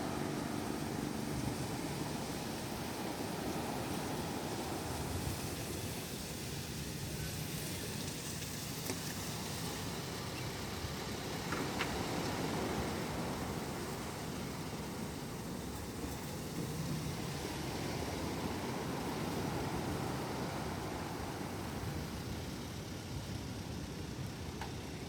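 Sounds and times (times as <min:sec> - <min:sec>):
sea surf rushing: 0:00.0 - 0:23.2
steady rain: 0:00.0 - 0:25.0.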